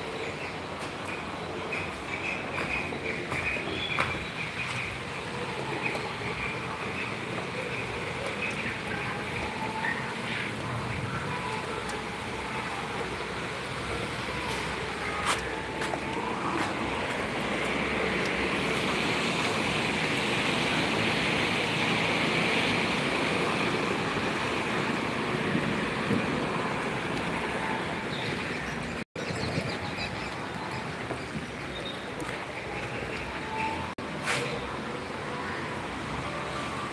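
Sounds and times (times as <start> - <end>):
traffic on wet road: 0.0 - 36.9.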